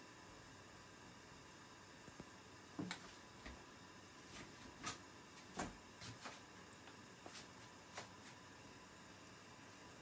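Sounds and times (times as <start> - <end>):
low hiss: 0.0 - 10.0.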